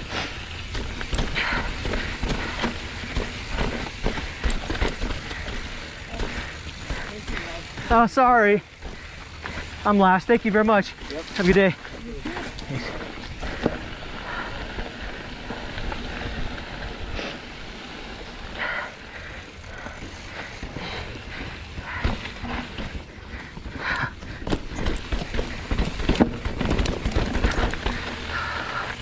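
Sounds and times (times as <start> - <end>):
mountain bike rattling: 0.0 - 29.0
wheels knocking on rocks: 0.4 - 29.0.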